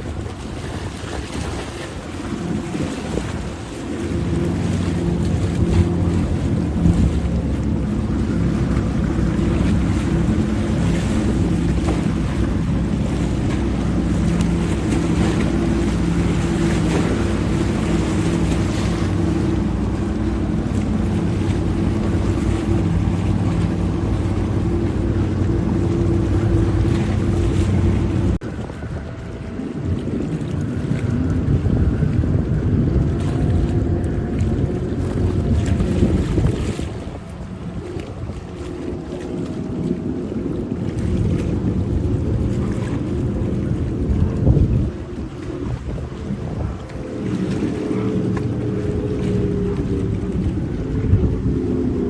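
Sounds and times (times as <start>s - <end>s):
speedboat engines droning: 0.0s - 52.0s
wind buffeting microphone: 0.0s - 52.0s.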